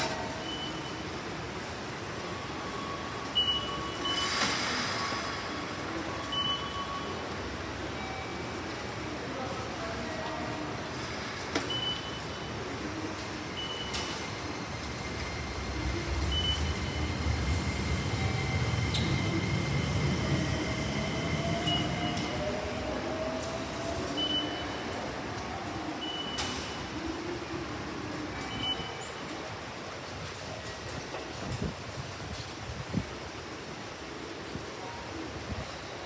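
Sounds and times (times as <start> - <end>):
train rumble: 0.0 - 36.0.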